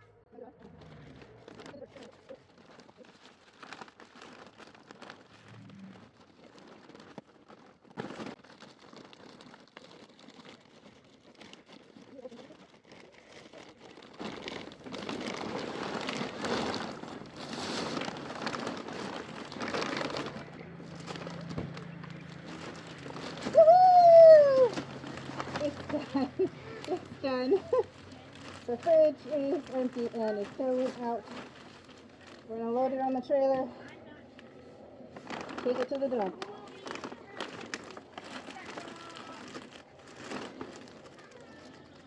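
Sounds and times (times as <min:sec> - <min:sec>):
plastic bag rustling: 0:00.6 - 0:42.0.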